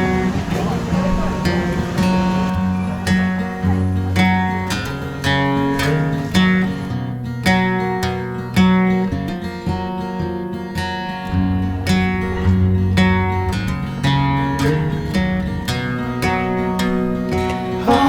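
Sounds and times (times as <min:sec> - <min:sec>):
song with strummed acoustic guitar: 0:00.0 - 0:18.0.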